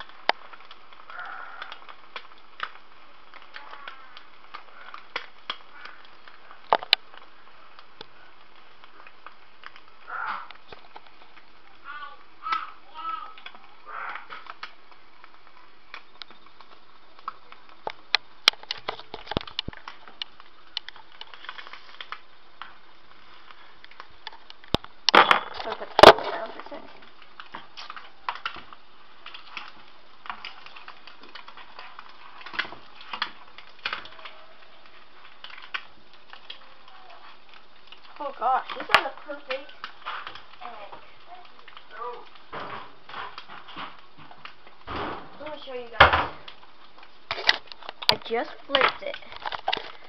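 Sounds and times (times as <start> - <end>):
egg frying crackling and popping: 0.0 - 50.0.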